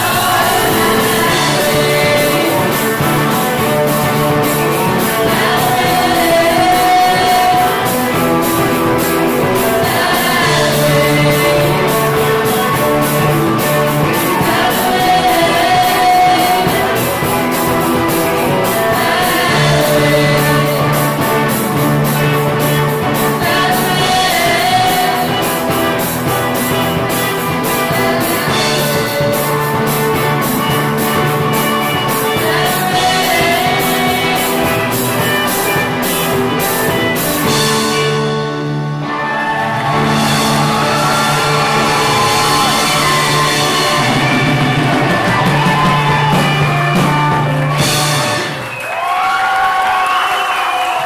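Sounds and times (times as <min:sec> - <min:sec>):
woman singing: 0:00.0 - 0:26.0, 0:27.4 - 0:37.0, 0:40.3 - 0:46.6
live rock band: 0:00.0 - 0:51.0.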